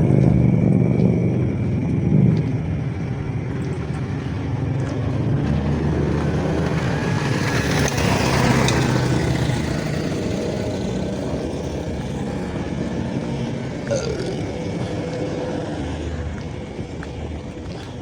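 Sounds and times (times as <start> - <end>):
engine drone: 0.0 - 18.0
vehicle passing: 0.0 - 18.0.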